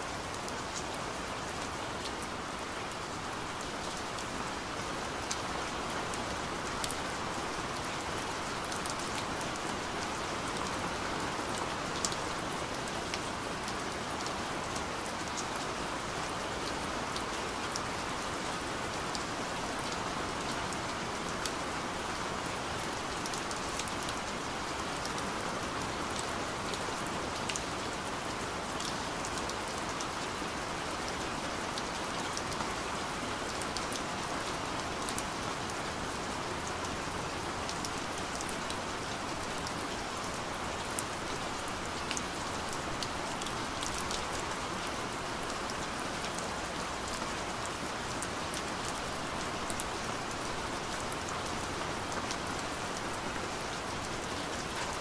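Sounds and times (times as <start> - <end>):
steady rain hissing: 0.0 - 55.0.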